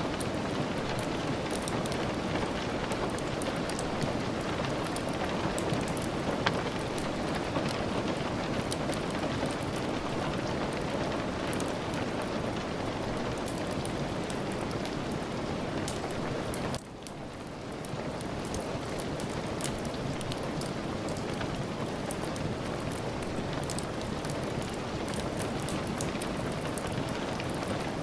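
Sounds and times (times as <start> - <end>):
sharp rain ticks: 0.0 - 28.0
steady rain hiss: 0.0 - 28.0.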